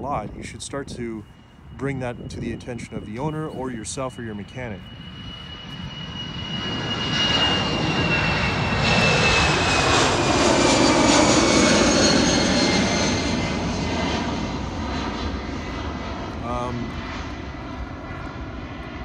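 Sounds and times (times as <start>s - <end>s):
jet airliner rumble: 0.0s - 19.0s
jet engine whine: 0.0s - 19.0s.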